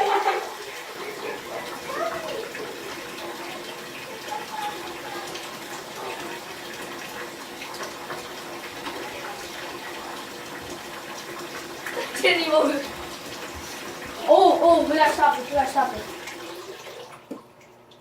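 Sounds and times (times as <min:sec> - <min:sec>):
water running into bathtub: 0:00.0 - 0:18.0.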